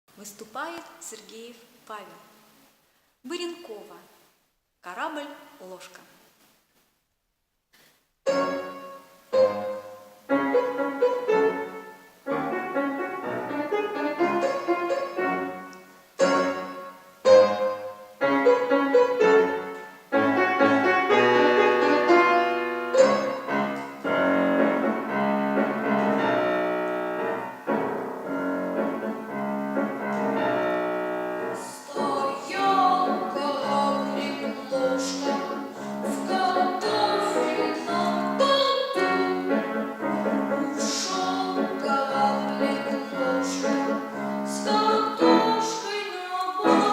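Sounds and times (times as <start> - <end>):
piano playing children's song: 8.3 - 46.9.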